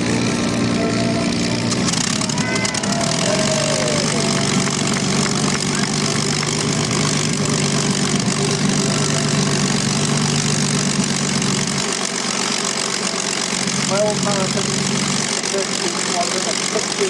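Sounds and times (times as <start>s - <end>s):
piston aircraft engines droning: 0.0s - 17.0s.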